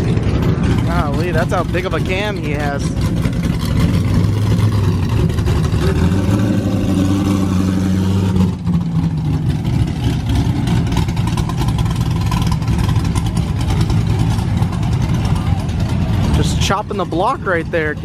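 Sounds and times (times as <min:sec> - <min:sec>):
car engine loping idle: 0:00.0 - 0:18.0.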